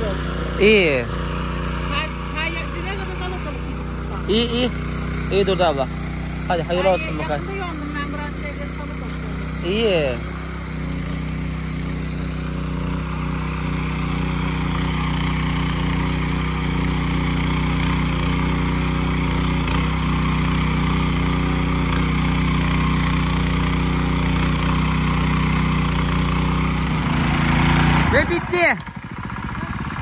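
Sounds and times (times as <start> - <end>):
tiller engine running: 0.0 - 30.0
tines churning soil: 0.0 - 30.0.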